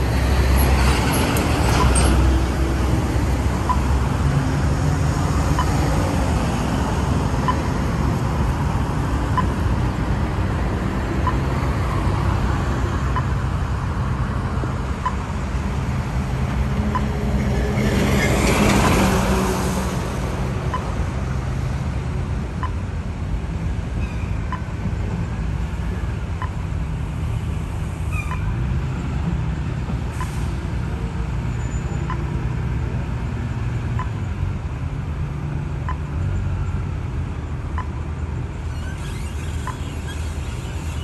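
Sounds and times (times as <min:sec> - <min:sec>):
heavy vehicle engine rumbling: 0:00.0 - 0:41.0.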